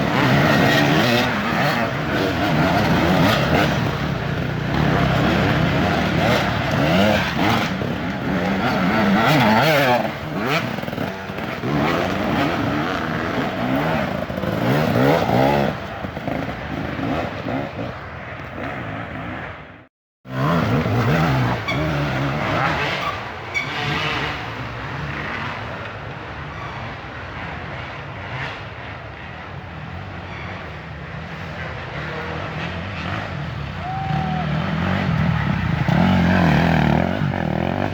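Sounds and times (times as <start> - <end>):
dirt bike engines revving: 0.0 - 37.9.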